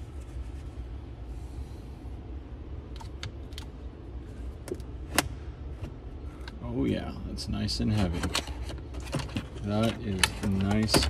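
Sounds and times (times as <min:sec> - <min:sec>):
steady low rumble: 0:00.0 - 0:10.9.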